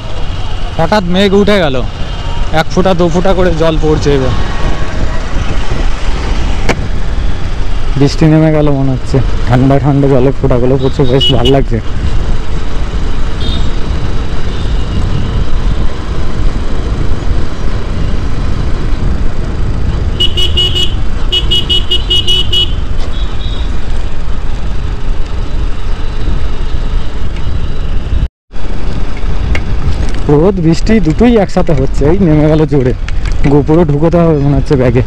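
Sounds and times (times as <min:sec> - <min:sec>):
motorcycle engine and road noise: 0:00.0 - 0:35.0
wind rumbling over microphone: 0:02.4 - 0:10.4, 0:11.7 - 0:21.4, 0:22.7 - 0:35.0.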